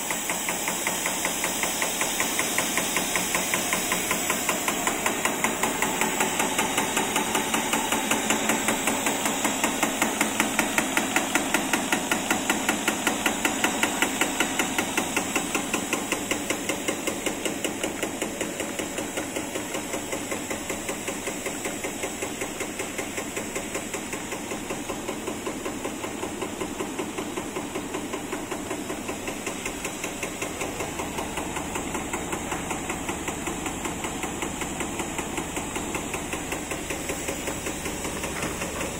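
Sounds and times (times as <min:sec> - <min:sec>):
steady machine hiss: 0:00.0 - 0:38.9.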